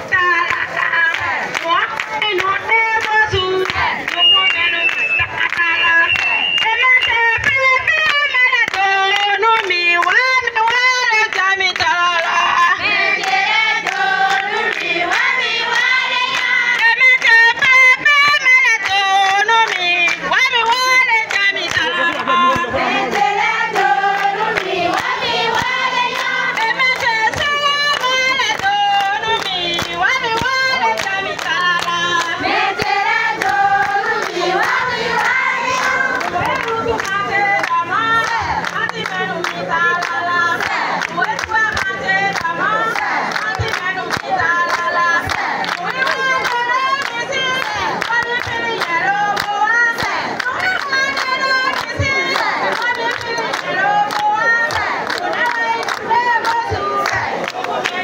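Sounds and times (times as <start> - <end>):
people clapping: 0.0 - 58.0
women singing together: 0.0 - 58.0.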